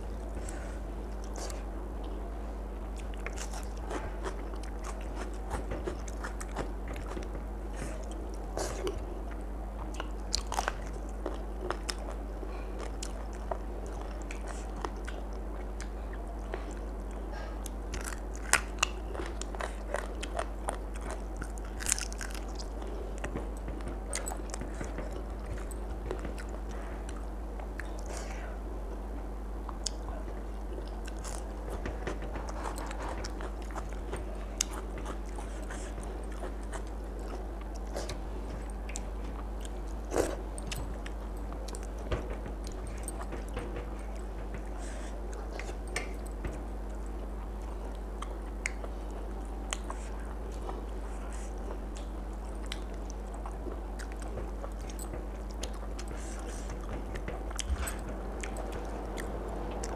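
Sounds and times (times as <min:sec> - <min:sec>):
person chewing with crunches: 0:00.0 - 0:02.2, 0:02.8 - 0:59.9.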